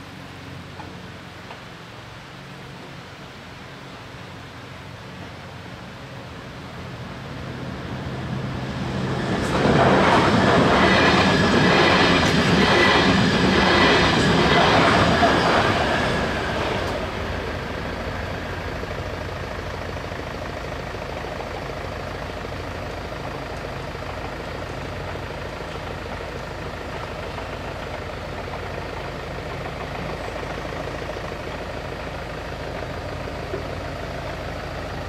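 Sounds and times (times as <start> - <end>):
heavy vehicle engine idling: 0.0 - 35.0
passing train: 0.0 - 35.0.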